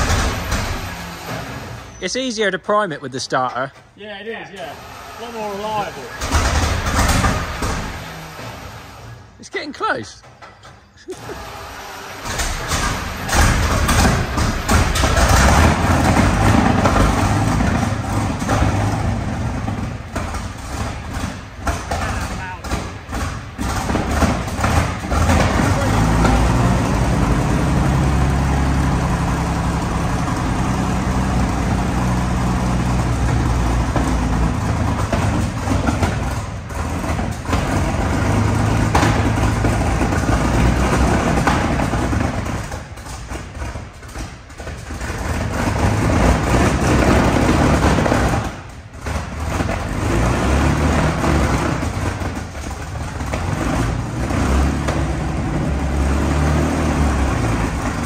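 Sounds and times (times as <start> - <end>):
engine running: 0.0 - 10.4, 11.0 - 58.0.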